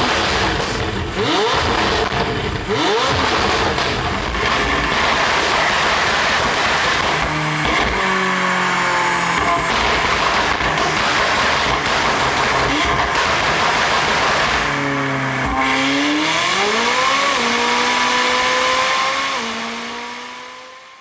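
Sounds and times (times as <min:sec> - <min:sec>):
loud raspy car exhaust: 0:00.0 - 0:21.0.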